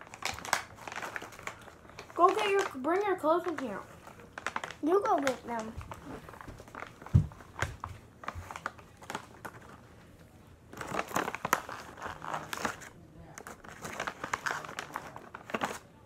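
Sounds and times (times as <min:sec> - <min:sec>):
rustling and crinkling: 0:00.0 - 0:15.9.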